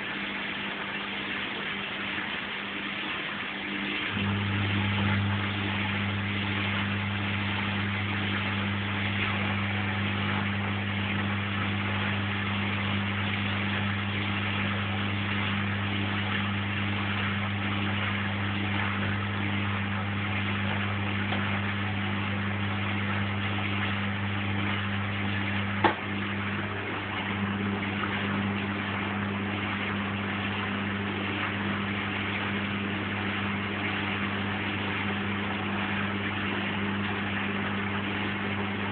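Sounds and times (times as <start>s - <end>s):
washing machine humming: 0.0s - 38.9s.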